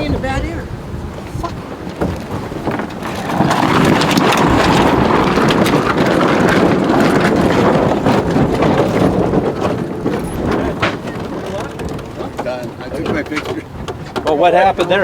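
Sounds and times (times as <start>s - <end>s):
sails flogging in the wind: 0.0s - 15.0s.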